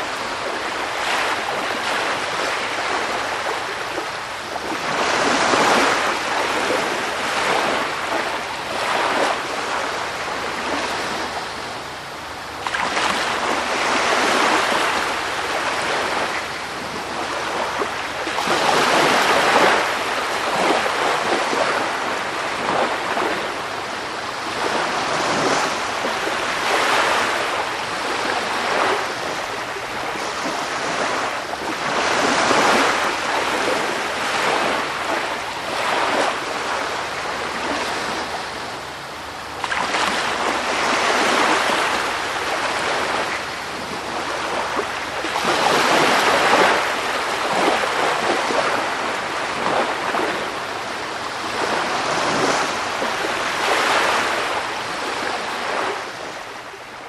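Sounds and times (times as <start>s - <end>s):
waves breaking and washing: 0.0s - 57.0s.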